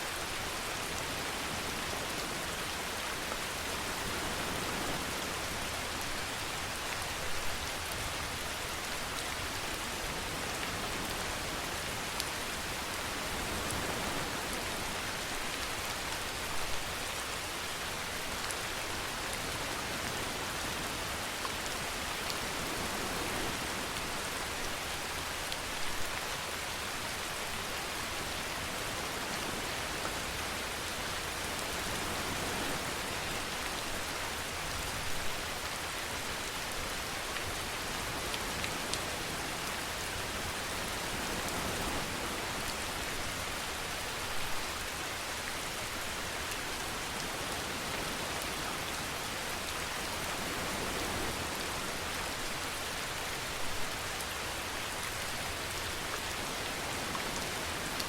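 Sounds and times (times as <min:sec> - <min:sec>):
steady rainfall hiss: 0:00.0 - 0:58.0.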